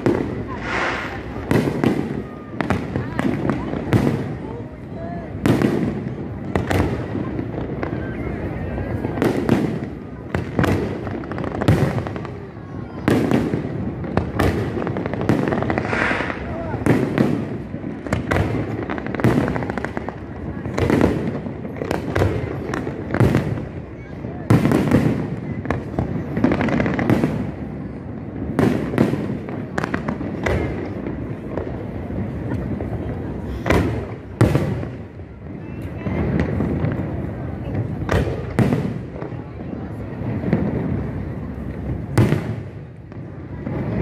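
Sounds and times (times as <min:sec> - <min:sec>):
fireworks bangs: 0:00.0 - 0:44.0
fireworks crackling: 0:00.0 - 0:44.0.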